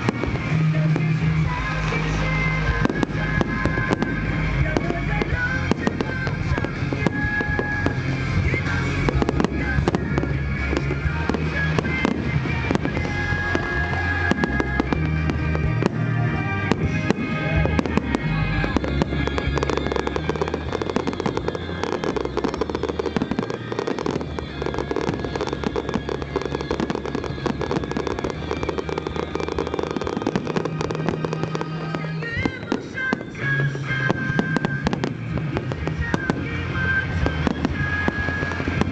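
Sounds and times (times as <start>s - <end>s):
fireworks bursting and crackling: 0.0s - 38.9s
music playing: 0.0s - 38.9s.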